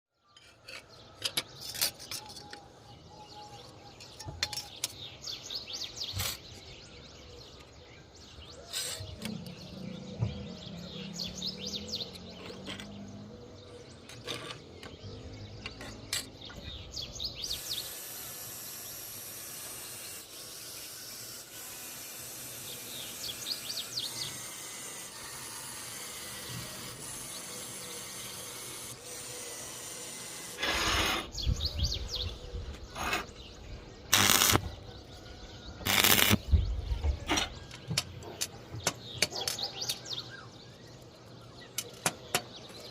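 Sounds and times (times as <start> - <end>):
small birds chirping: 0.1 - 42.9.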